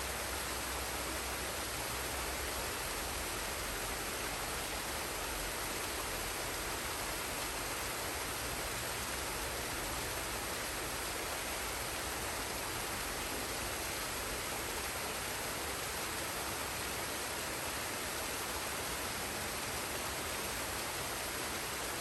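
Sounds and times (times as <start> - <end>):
waterfall and stream rushing: 0.0 - 22.0.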